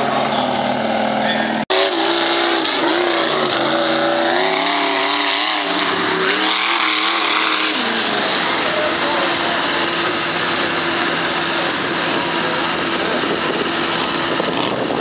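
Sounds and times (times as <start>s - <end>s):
tires churning mud: 0.0s - 15.0s
truck engine revving: 0.0s - 15.0s.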